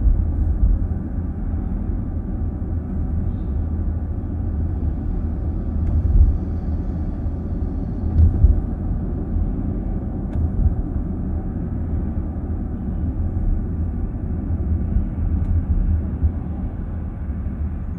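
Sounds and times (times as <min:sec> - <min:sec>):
car cabin road rumble: 0:00.0 - 0:17.9.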